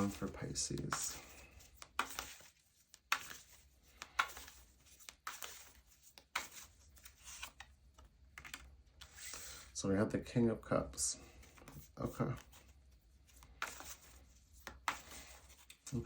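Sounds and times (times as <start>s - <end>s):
cards being shuffled: 0.0s - 9.8s, 11.3s - 16.0s.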